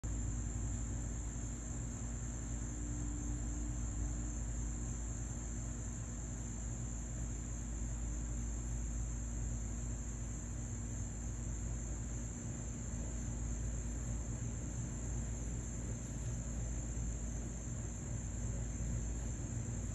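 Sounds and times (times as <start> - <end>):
high-pitched insect chorus: 0.1 - 19.9.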